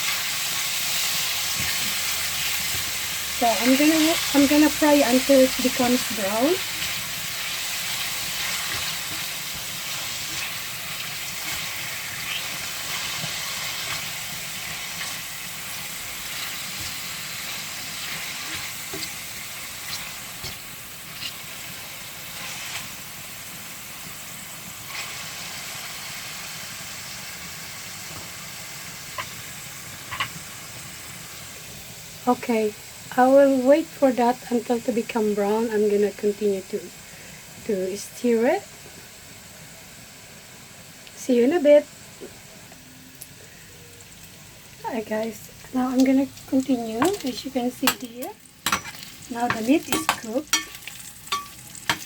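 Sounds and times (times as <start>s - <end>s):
meat sizzling in a frying pan: 0.0s - 52.0s.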